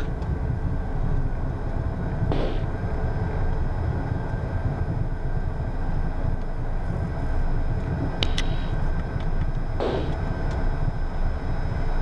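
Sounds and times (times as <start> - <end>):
faint jet engine whine: 0.0 - 12.0
low rumble of airframe and wheels: 0.0 - 12.0.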